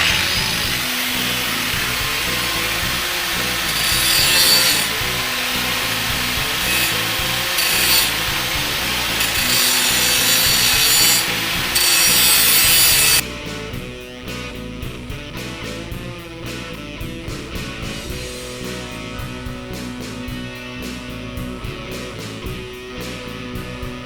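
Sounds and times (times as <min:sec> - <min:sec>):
grinder grinding metal: 0:00.0 - 0:24.0.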